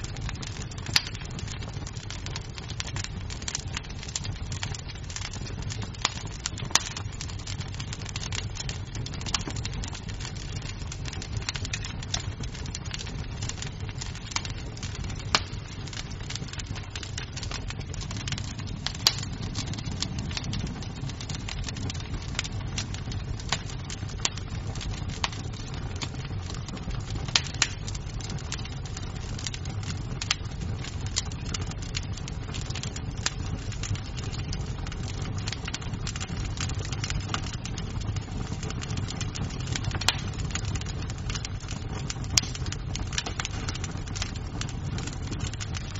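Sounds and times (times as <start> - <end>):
burning wood popping: 0.0 - 45.9
wood fire crackling: 0.0 - 45.9.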